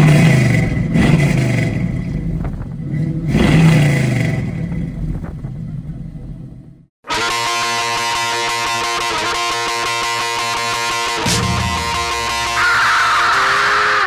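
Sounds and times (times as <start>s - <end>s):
car engine revving: 0.0s - 6.4s, 7.1s - 14.0s.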